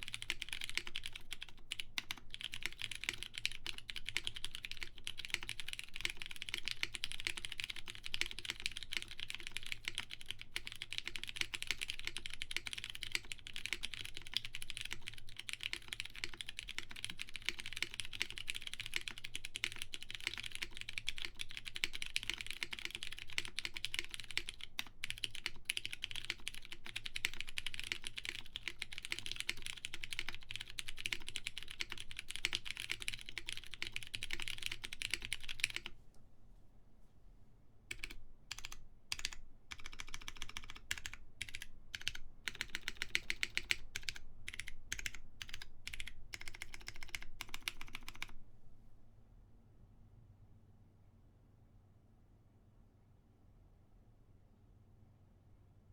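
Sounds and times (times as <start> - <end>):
fast typing on mechanical keyboard: 0.0 - 36.0, 37.9 - 48.4.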